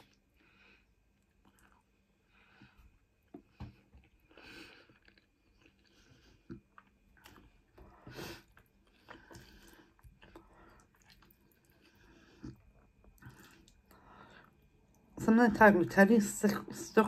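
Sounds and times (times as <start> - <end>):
person chewing: 1.1 - 15.0.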